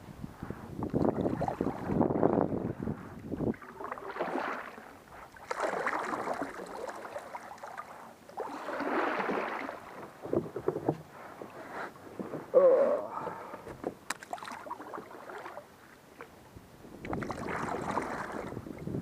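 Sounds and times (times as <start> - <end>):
paddle splashing in water: 1.0 - 12.5, 13.1 - 16.4, 17.0 - 19.0.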